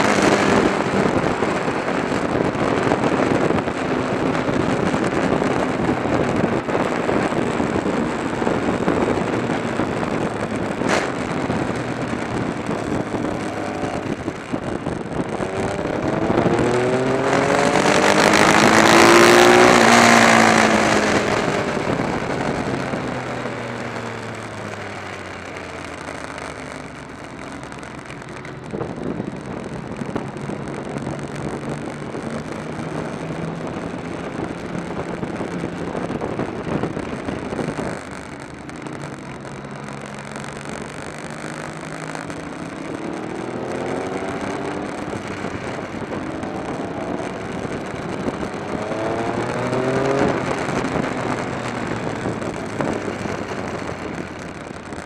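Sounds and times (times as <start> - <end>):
motorcycle engine running: 0.0 - 55.0
rushing wind: 0.0 - 55.0.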